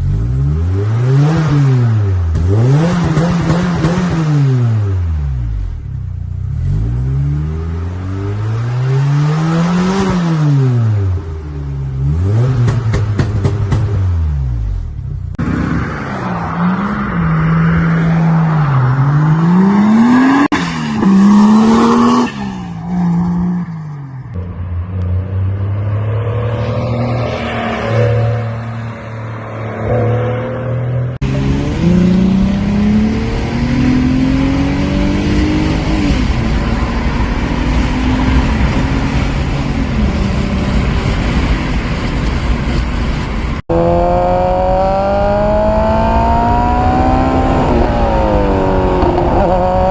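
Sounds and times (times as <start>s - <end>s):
car engine revving: 0.0s - 22.4s, 24.3s - 49.9s.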